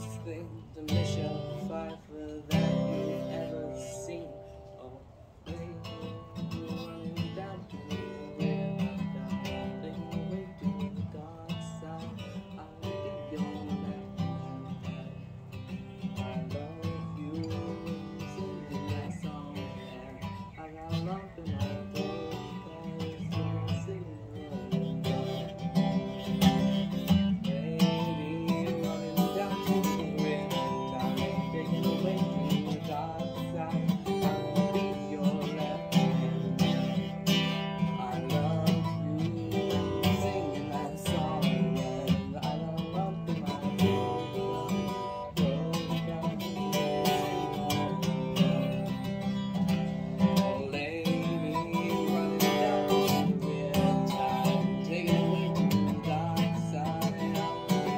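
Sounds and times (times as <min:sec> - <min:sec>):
acoustic guitar music: 0:00.0 - 0:57.9.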